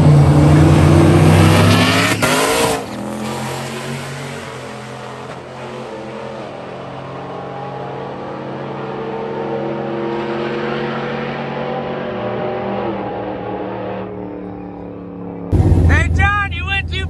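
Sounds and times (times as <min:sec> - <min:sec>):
racing engines accelerating: 0:00.0 - 0:17.0.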